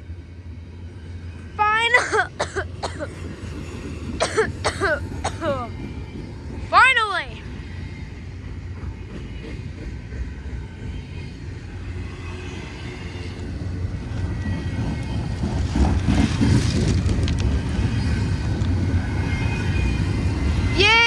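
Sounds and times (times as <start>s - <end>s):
freight train rumbling on rails: 0.0s - 21.0s.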